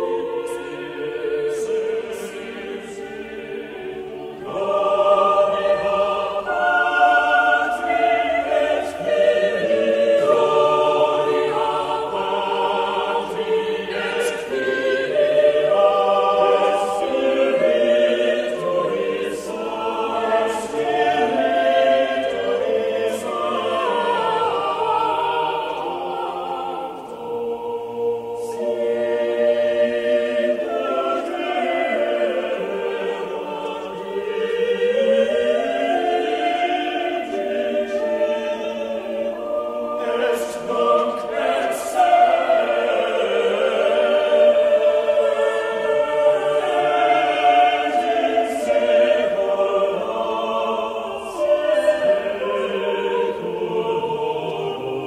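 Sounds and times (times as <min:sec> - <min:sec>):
choir singing sacred music: 0:00.0 - 0:55.0.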